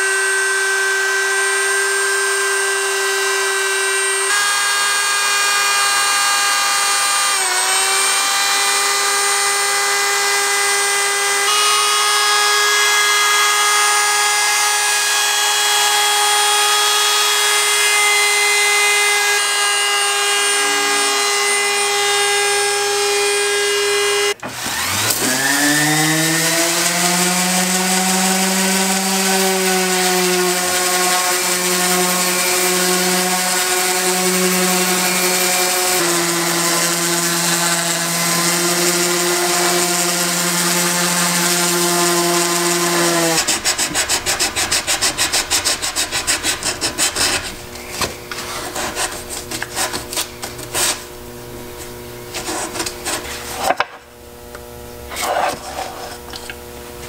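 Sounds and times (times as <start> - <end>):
orbital sander sanding wood: 0.0 - 57.0
wood router running: 0.0 - 57.0.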